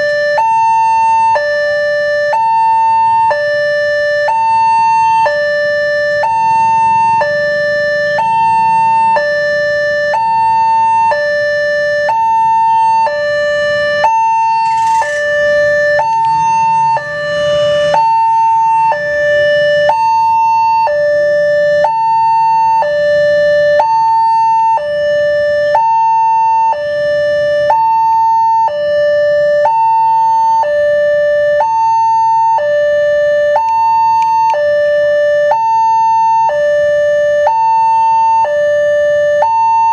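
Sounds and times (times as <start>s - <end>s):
level crossing two-tone alarm: 0.0s - 39.9s
low road traffic: 0.0s - 39.9s.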